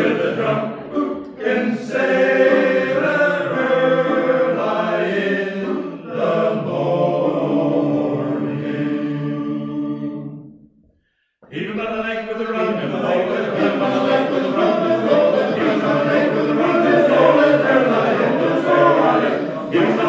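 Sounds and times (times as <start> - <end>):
male choir singing unaccompanied: 0.0 - 10.4, 11.5 - 20.0.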